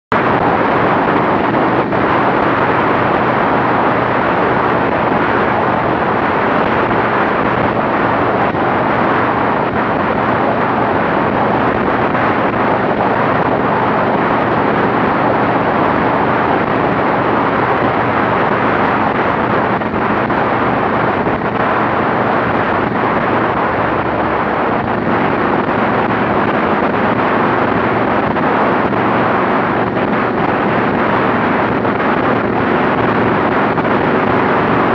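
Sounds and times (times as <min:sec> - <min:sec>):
motorcycle engine drone: 0:00.1 - 0:34.9
wind buffeting microphone: 0:00.1 - 0:34.9.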